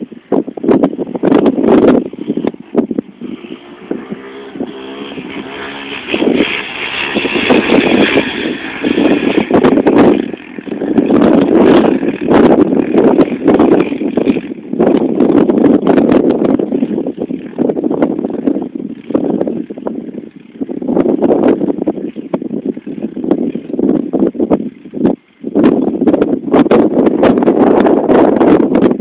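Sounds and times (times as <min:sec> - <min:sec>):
loud rough noise: 0:00.0 - 0:29.0
quad engine revving: 0:01.0 - 0:24.3.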